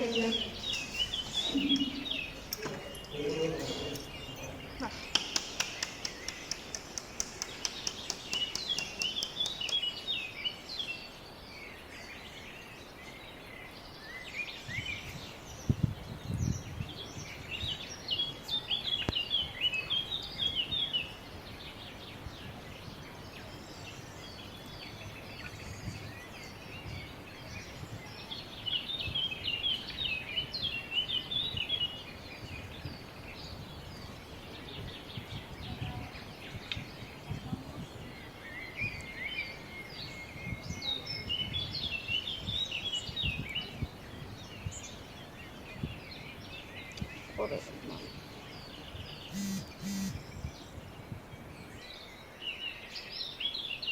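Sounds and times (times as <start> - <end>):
outdoor background noise: 0.0 - 53.9
songbird twittering: 0.0 - 53.9.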